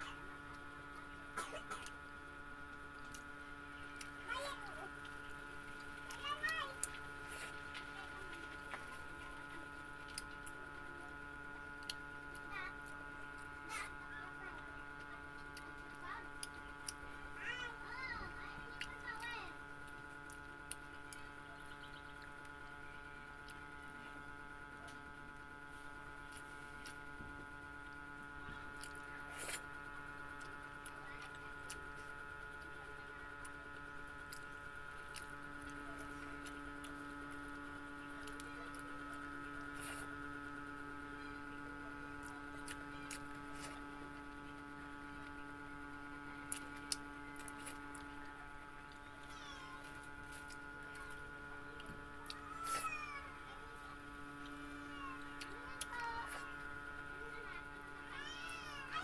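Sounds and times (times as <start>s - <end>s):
steady electrical hum: 0.0s - 59.0s
soft chewing: 2.6s - 59.0s.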